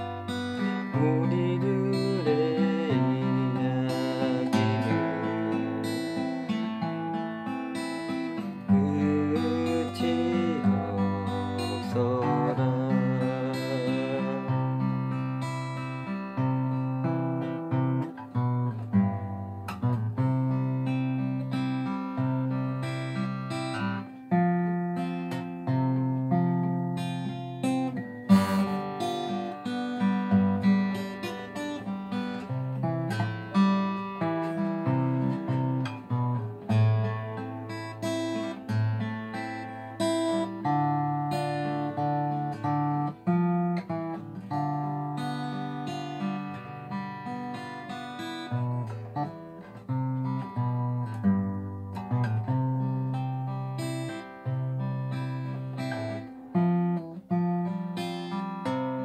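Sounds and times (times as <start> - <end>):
solo acoustic guitar playing: 0.0 - 59.0.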